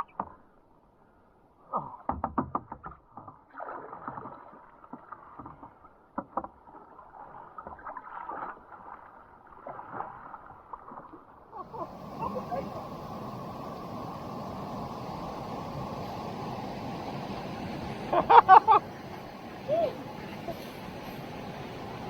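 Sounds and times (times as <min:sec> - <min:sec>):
water sloshing and splashing: 0:03.3 - 0:06.0, 0:06.6 - 0:22.0.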